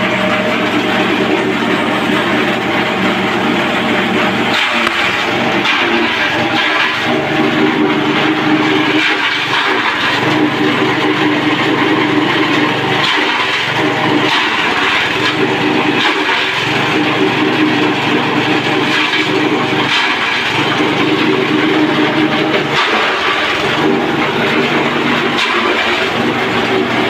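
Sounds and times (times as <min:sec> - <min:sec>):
engine droning under load: 0:00.0 - 0:27.0.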